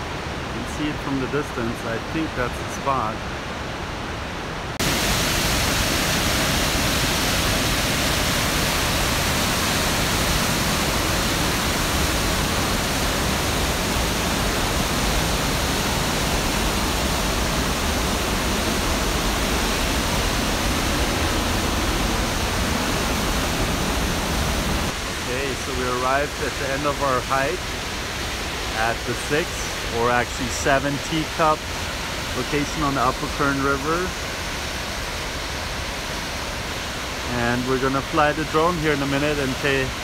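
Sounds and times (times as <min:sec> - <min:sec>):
whitewater rapids rushing: 0:04.8 - 0:40.0.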